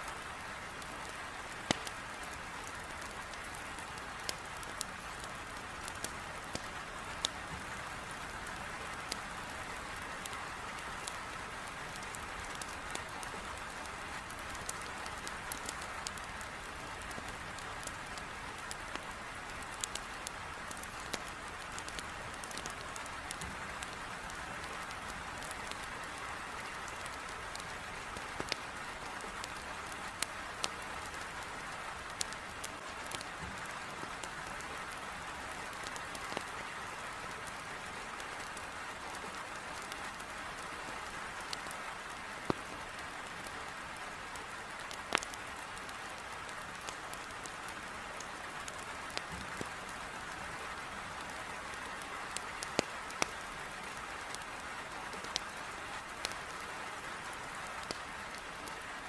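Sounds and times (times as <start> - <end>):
heavy rain against a window: 0.0 - 59.0
wood fire crackling: 0.1 - 59.0.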